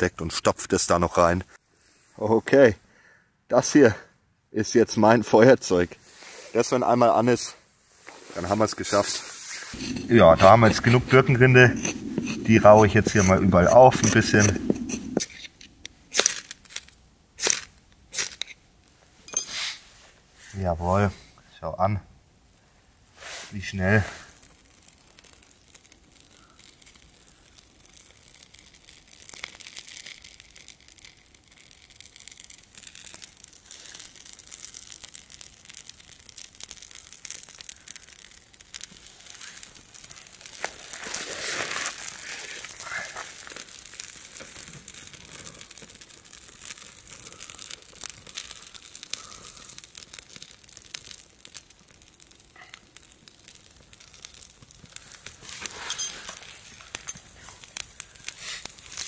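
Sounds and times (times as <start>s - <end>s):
campfire crackling: 7.8s - 20.0s, 22.1s - 59.0s.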